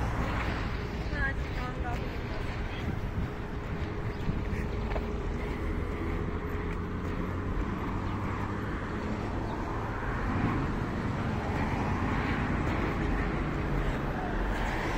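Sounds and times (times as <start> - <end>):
traffic rumble of passing vehicles: 0.0 - 14.9.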